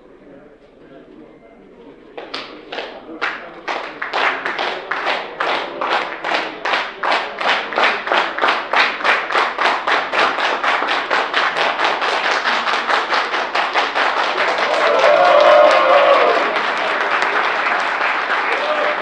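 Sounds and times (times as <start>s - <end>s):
audience applauding: 2.2s - 19.0s
audience clapping in unison: 2.2s - 19.0s.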